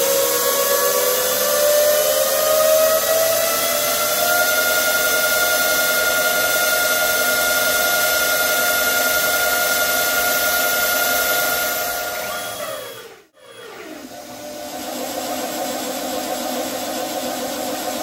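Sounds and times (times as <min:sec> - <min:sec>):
lathe spindle whine: 0:00.0 - 0:18.0.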